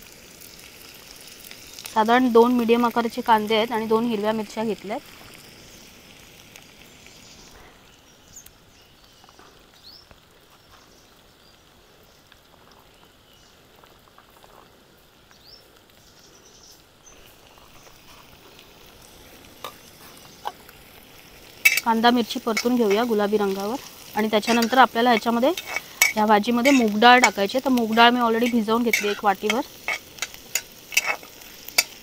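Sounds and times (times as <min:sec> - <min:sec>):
food sizzling in hot oil: 0:00.0 - 0:14.2, 0:16.8 - 0:32.0.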